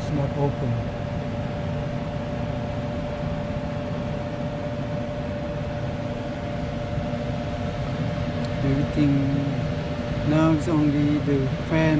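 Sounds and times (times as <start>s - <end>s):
blower fan rushing air: 0.0s - 11.9s
steady hum: 0.0s - 11.9s.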